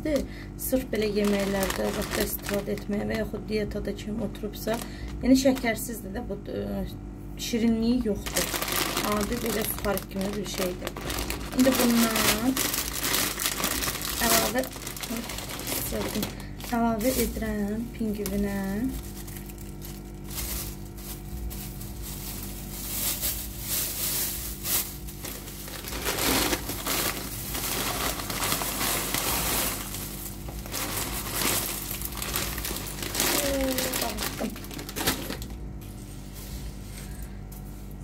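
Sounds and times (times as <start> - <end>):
plastic bags crinkling: 0.0 - 6.1, 7.6 - 37.7
cornflakes rattling: 0.9 - 3.3, 8.1 - 37.2.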